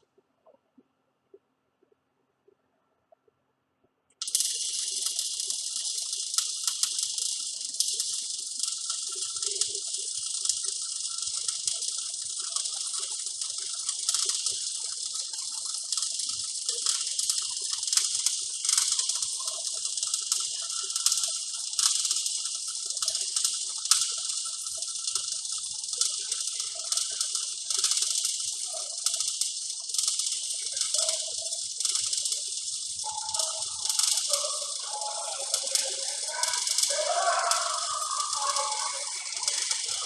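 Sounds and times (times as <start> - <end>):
welder arc crackling hiss: 4.2 - 40.0.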